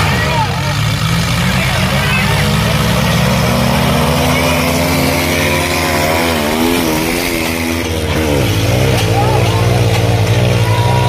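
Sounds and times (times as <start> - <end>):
diesel tractor engines under load: 0.0 - 11.0.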